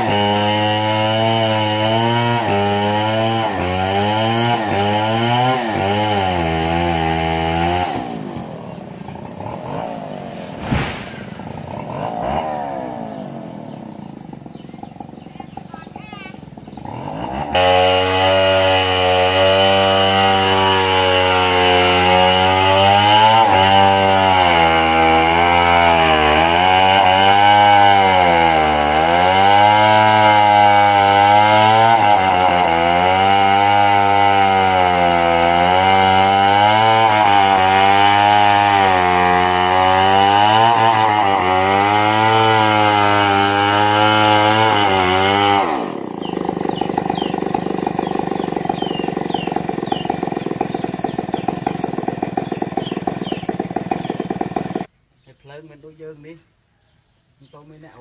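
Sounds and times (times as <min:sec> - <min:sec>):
chainsaw cutting wood: 0:00.0 - 0:08.6, 0:09.2 - 0:13.1, 0:16.7 - 0:54.9.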